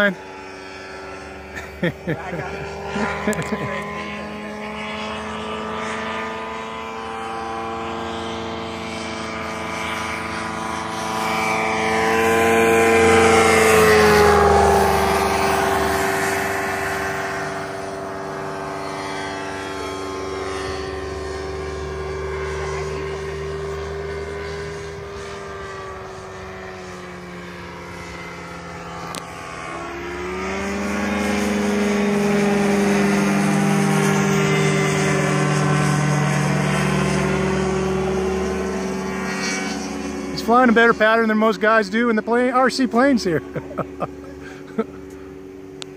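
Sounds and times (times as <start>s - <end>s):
propeller airplane engine droning: 0.0s - 45.9s.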